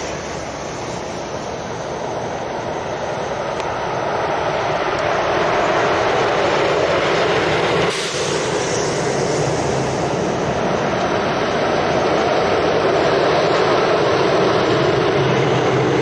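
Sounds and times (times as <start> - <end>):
heavy road traffic of lorries: 0.0 - 16.0.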